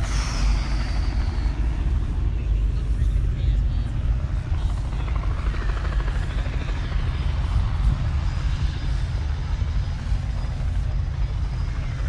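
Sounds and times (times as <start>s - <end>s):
faint outdoor background noise: 0.0s - 12.0s
wind buffeting microphone: 0.0s - 12.0s.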